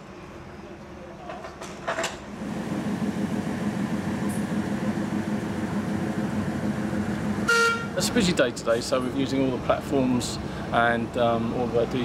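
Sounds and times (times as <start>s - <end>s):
diesel locomotive engine droning: 2.3s - 12.0s.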